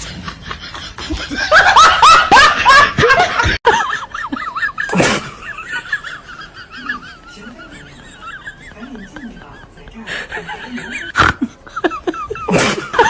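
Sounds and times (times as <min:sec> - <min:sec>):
person laughing loudly: 0:00.0 - 0:13.0.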